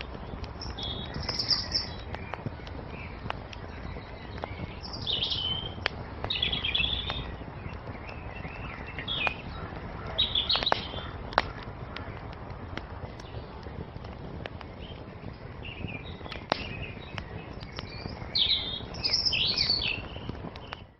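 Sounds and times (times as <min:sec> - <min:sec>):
songbirds chirping: 0:00.0 - 0:20.9
wood fire crackling: 0:00.0 - 0:20.9.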